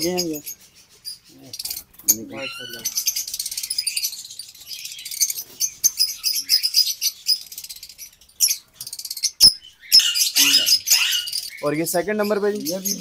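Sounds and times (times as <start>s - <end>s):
lovebirds chattering: 0.0s - 13.0s.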